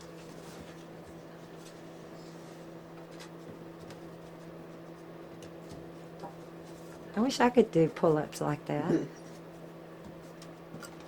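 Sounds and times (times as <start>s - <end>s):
steady low two-pitch hum: 0.0s - 11.0s.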